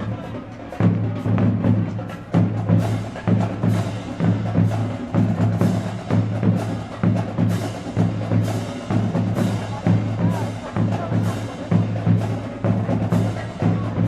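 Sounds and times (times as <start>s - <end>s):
pep band playing: 0.0s - 14.0s
sharp percussion strokes: 0.0s - 14.0s.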